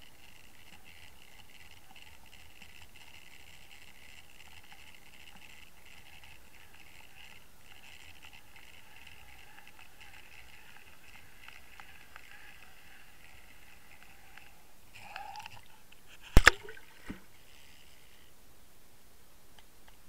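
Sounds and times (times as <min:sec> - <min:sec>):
faint clicks: 0:00.0 - 0:18.3, 0:19.5 - 0:20.0.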